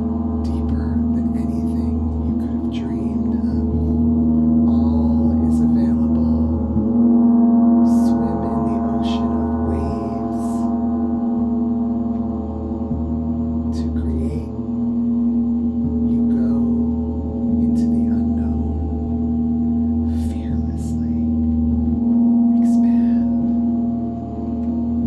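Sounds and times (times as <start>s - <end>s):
gong resonating: 0.0s - 25.0s.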